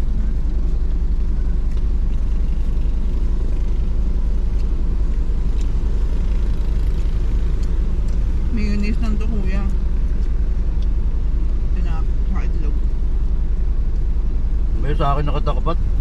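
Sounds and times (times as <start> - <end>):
car engine and road noise inside: 0.0 - 16.0.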